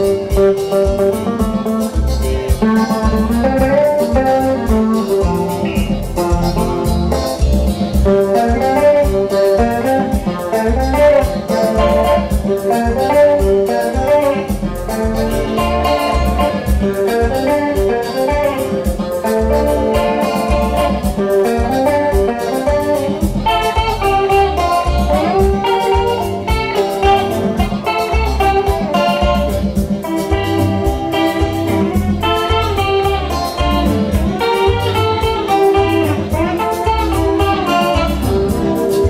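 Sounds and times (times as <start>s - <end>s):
electric guitar lead lines: 0.0s - 39.0s
keyboard chords: 0.0s - 39.0s
pulsing bass line: 0.0s - 39.0s
steady beat: 0.0s - 39.0s.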